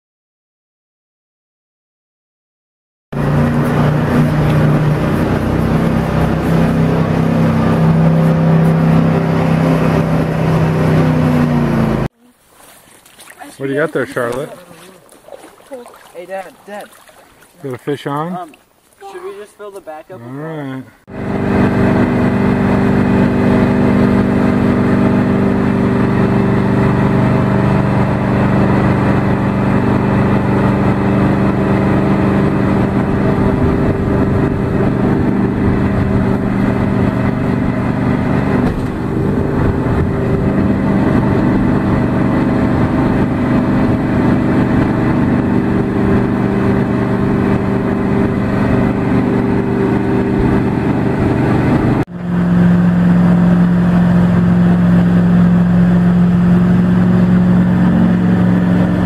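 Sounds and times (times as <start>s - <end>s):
boat engine running: 3.2s - 19.8s, 20.5s - 59.0s.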